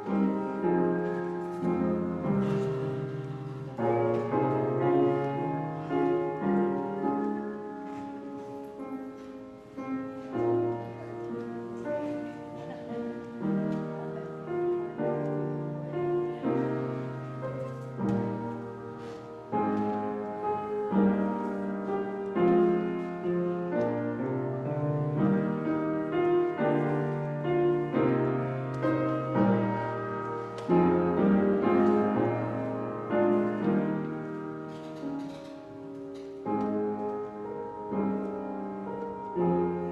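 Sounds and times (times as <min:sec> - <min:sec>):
solo piano piece: 0:00.0 - 0:39.9.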